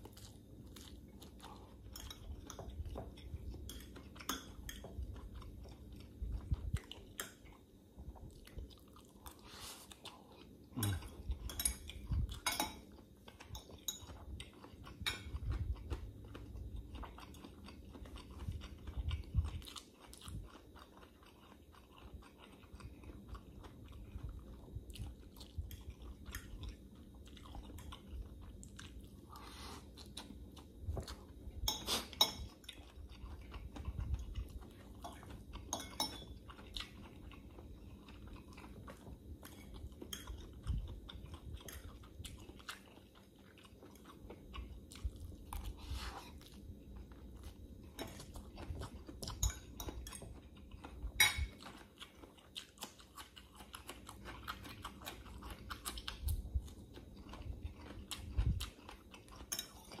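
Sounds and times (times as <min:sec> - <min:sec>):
person chewing food: 0:00.0 - 1:00.0.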